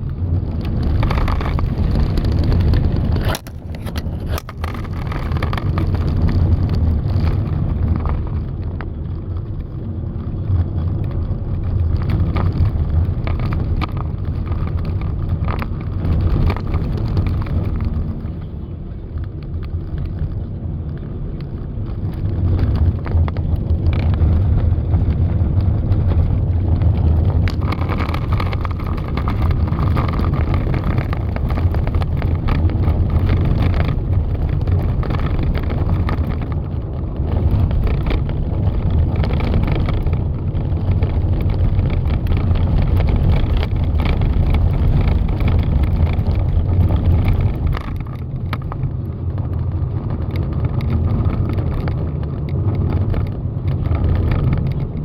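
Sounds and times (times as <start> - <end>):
vehicle noise: 0.0 - 55.0
wind rumble on microphone: 0.0 - 55.0.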